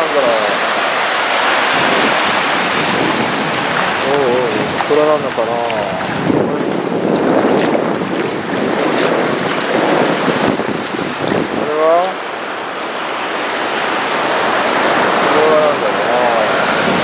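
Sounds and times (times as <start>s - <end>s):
sea surf on sandy beach: 0.0s - 17.0s
wind buffeting microphone: 0.5s - 17.0s.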